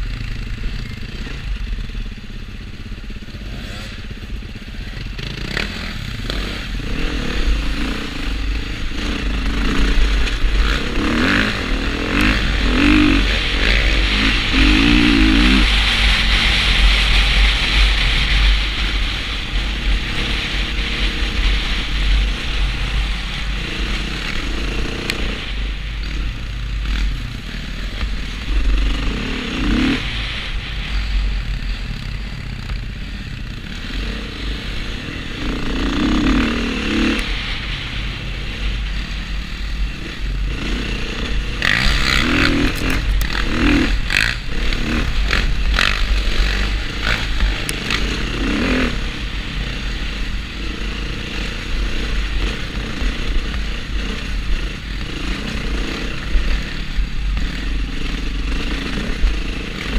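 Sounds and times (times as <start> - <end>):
dirt bike engine revving: 0.0 - 59.9
wind rumble on microphone: 0.0 - 59.9.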